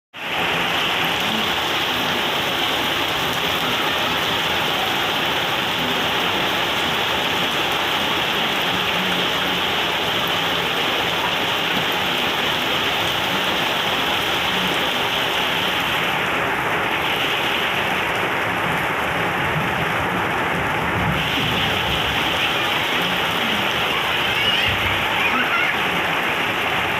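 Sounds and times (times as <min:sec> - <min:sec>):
heavy rain falling: 0:00.1 - 0:26.9.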